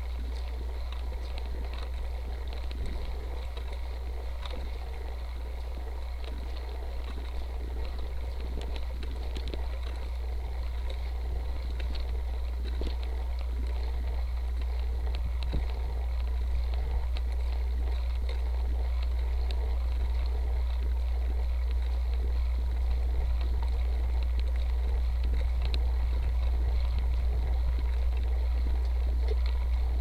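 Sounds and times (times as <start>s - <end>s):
bicycle ticks and rattles: 0.0s - 30.0s
wind rumble on microphone: 0.0s - 30.0s.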